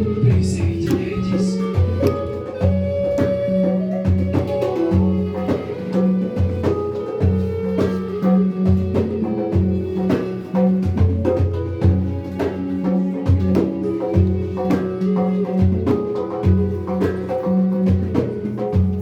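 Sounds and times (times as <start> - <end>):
handpan ringing notes: 0.0 - 19.0.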